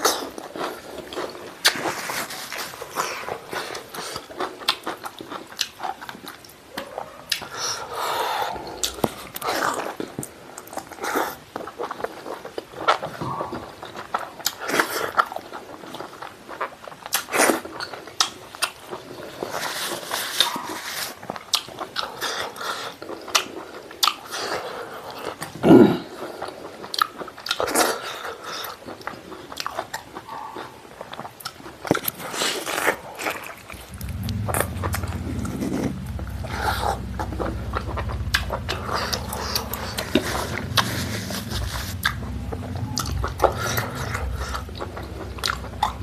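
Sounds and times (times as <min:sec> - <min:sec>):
person chewing wetly: 0:00.0 - 0:46.0.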